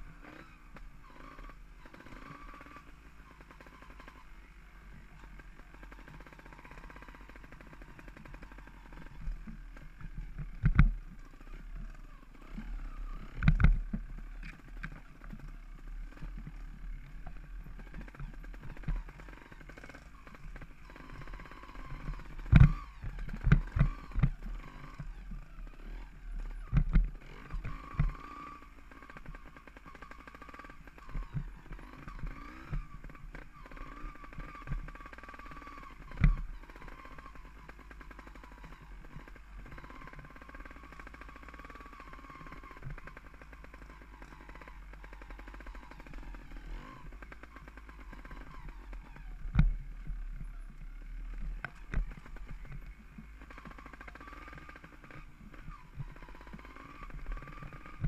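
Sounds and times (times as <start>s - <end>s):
tyre and trail noise: 0.0s - 58.0s.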